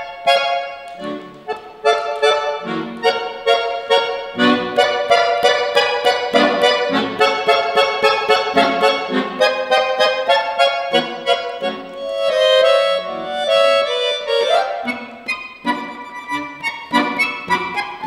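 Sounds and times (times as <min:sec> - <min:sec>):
accordion dance melody: 0:00.0 - 0:18.0.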